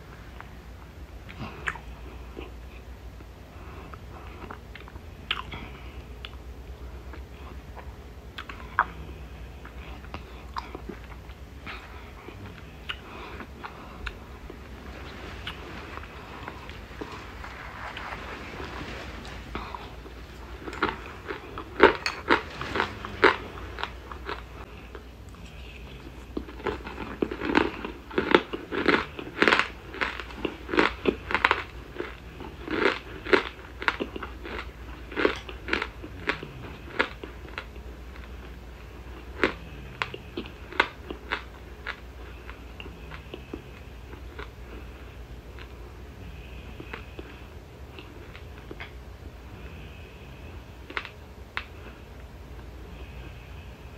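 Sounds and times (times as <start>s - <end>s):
close chewing crunches: 1.2s - 49.0s.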